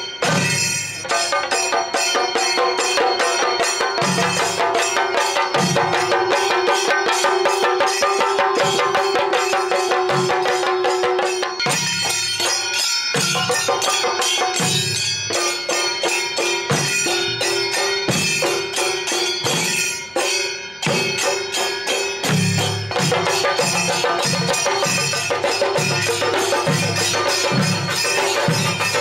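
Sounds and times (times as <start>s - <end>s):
drums and cymbals rhythm: 0.0s - 29.0s.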